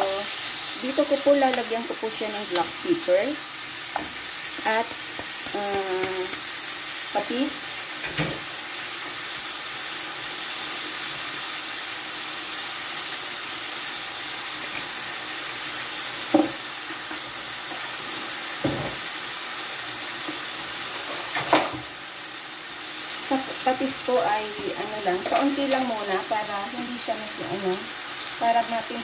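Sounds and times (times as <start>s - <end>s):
food sizzling in oil: 0.0s - 29.0s.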